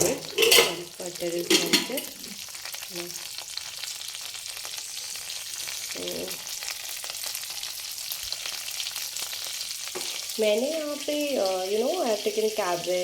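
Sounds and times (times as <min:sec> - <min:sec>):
garlic sizzling in butter: 0:00.0 - 0:13.0.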